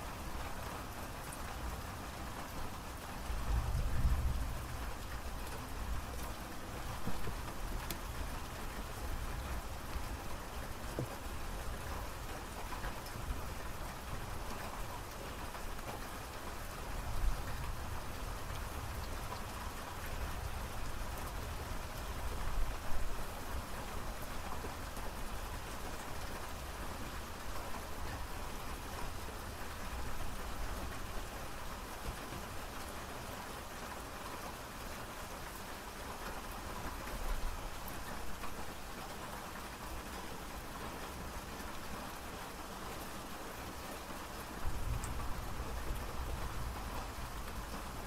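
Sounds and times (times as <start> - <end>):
rain pattering: 0.0 - 48.0.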